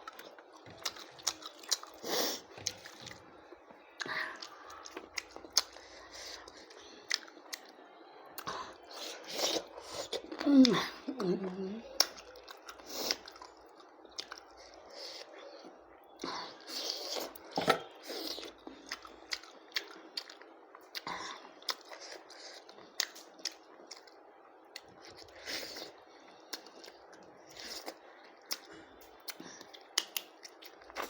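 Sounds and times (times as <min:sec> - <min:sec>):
person chewing food: 0:00.0 - 0:07.8, 0:08.4 - 0:31.0.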